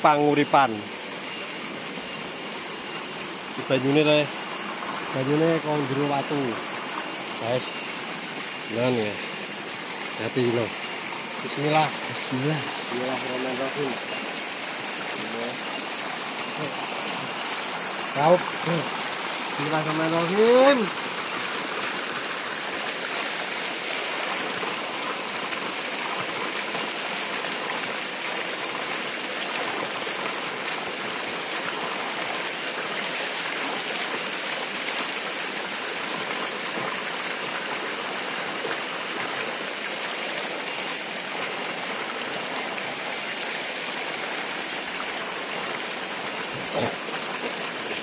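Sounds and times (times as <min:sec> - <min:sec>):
water gushing over rocks: 0:00.0 - 0:48.0.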